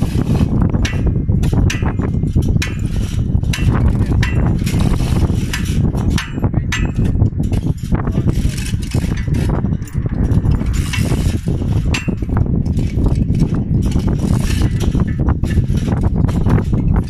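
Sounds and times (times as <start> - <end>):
low rumble: 0.0 - 17.0
steel chain clinking: 0.0 - 17.0
hoist mechanism clicking: 0.1 - 17.0.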